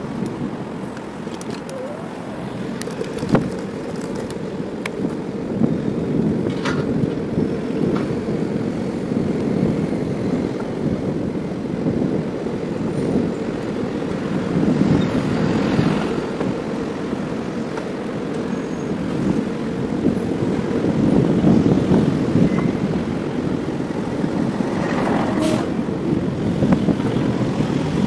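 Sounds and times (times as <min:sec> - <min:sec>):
city car traffic: 0:00.0 - 0:28.0
wind buffeting microphone: 0:00.0 - 0:28.0.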